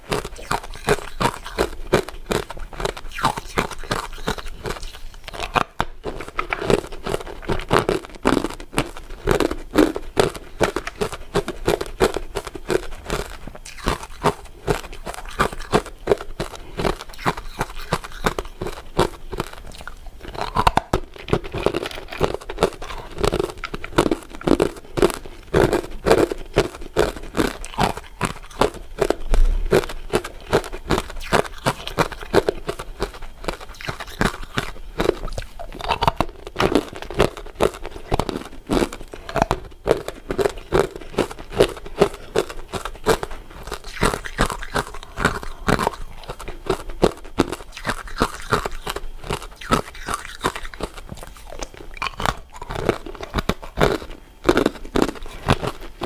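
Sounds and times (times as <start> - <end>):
crunching and chewing ice: 0.0 - 56.0.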